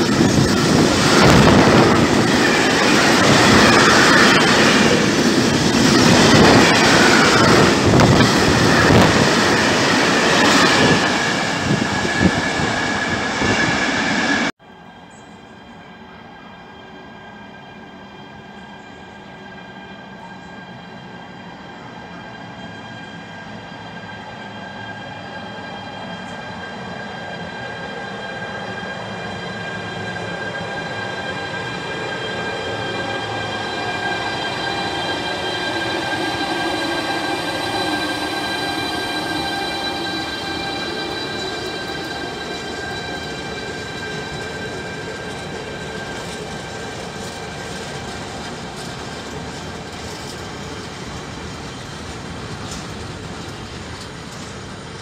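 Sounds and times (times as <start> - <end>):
high whining tones: 0.0 - 14.5, 22.0 - 52.0
freight train passing: 0.0 - 55.0
rumble of train wheels: 0.0 - 55.0.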